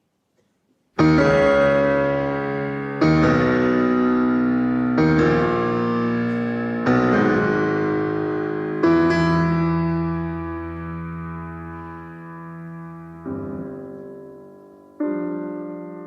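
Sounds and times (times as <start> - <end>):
piano chords: 1.0 - 16.0.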